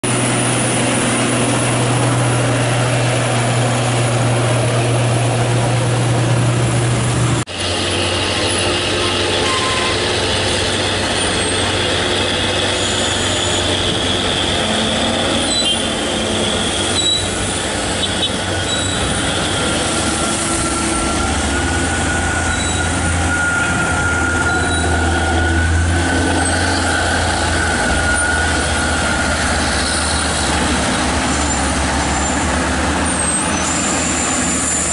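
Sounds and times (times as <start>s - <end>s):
dump truck diesel engines: 0.0s - 34.9s.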